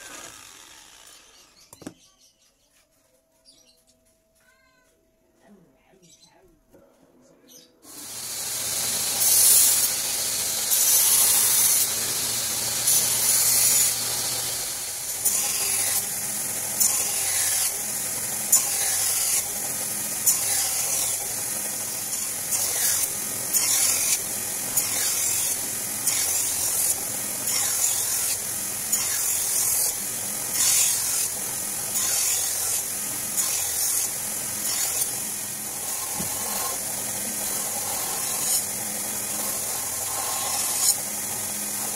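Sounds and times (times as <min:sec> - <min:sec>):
belt grinder grinding blade: 0:00.0 - 0:01.7, 0:07.9 - 0:41.9.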